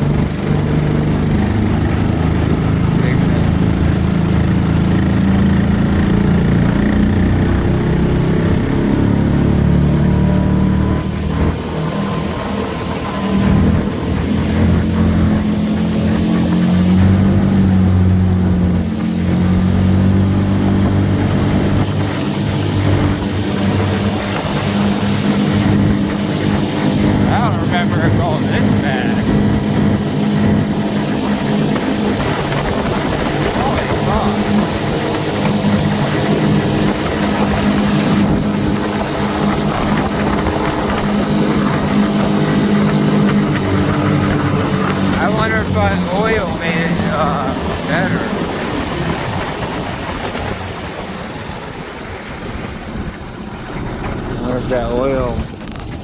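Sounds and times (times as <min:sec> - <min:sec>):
outboard motor running: 0:00.0 - 0:56.0
rushing water noise: 0:00.0 - 0:56.0.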